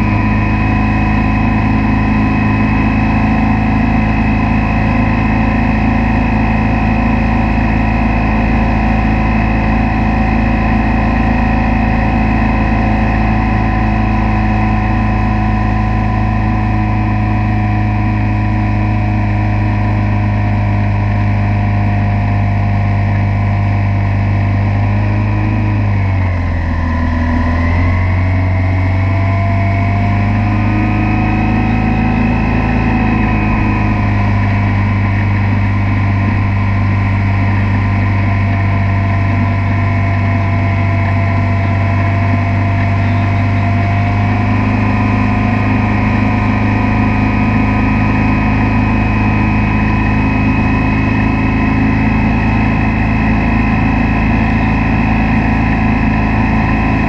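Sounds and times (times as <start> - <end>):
motorboat engine running: 0.0 - 57.0.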